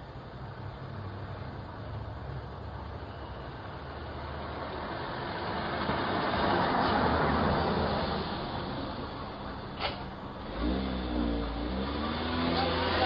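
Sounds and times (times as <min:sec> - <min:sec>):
car approaching: 0:00.0 - 0:13.0.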